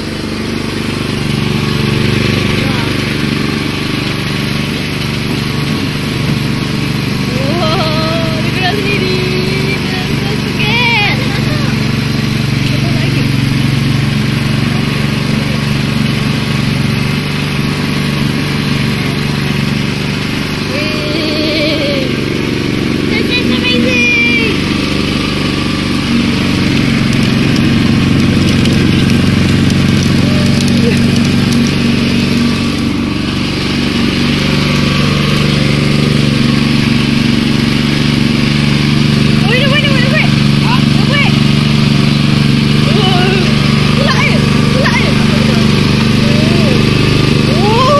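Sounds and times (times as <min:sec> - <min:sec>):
rollers crushing sugarcane: 0:00.0 - 0:47.9
small petrol engine running: 0:00.0 - 0:47.9.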